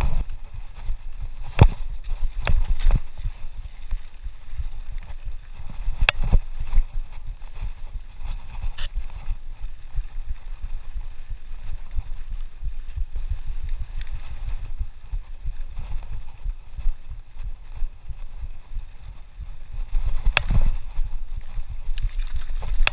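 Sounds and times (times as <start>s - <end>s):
bike tyres rumbling over dirt: 0.0s - 22.9s.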